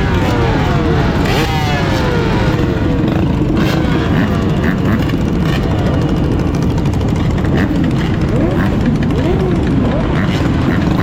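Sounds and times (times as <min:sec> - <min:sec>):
heavy low rumble: 0:00.0 - 0:11.0
mini bike engines running: 0:00.0 - 0:11.0.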